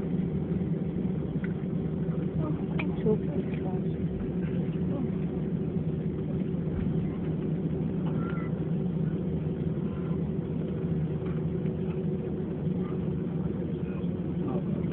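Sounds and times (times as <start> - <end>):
airliner cabin engine hum: 0.0 - 14.9.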